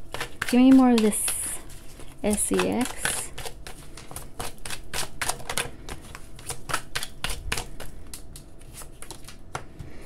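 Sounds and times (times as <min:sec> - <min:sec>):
cards being shuffled: 0:00.2 - 0:10.0.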